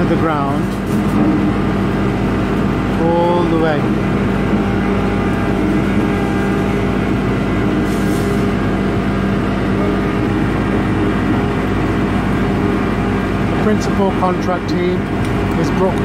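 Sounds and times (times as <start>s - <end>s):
piling rig engine running: 0.0s - 16.0s.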